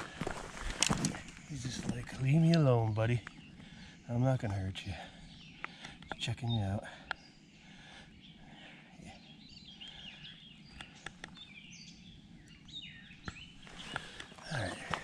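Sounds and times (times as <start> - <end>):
faint outdoor hush: 0.0 - 15.0
songbirds singing: 0.0 - 15.0.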